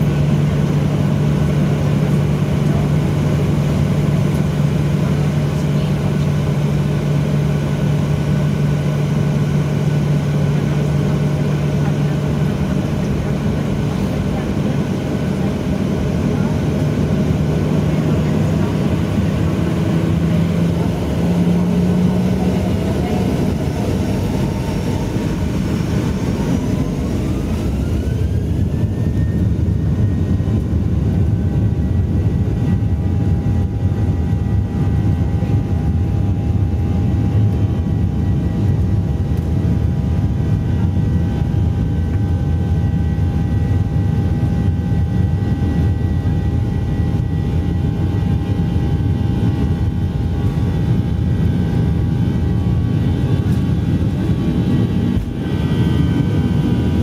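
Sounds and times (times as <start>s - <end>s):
jet engine low roar: 0.0s - 57.0s
jet engine whine: 0.0s - 57.0s.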